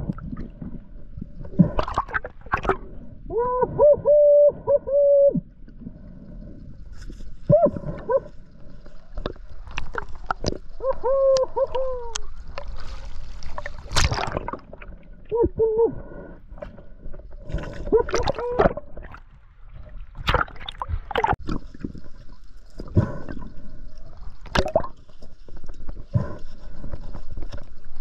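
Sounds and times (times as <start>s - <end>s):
water sloshing and gurgling: 0.0s - 3.5s, 5.4s - 28.0s.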